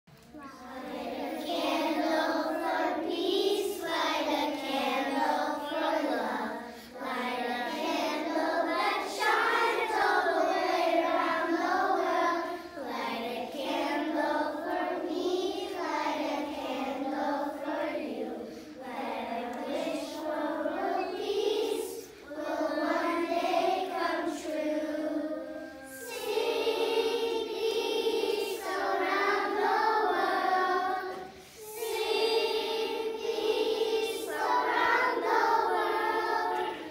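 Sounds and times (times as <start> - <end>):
children singing in unison: 0.3 - 36.9.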